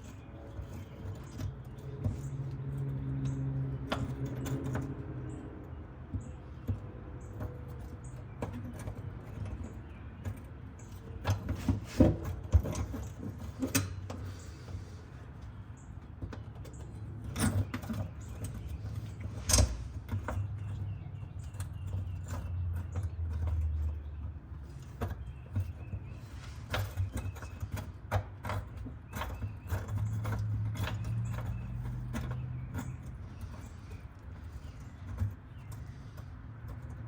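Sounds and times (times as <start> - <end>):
clicks and knocks of hand work: 0.0 - 37.0.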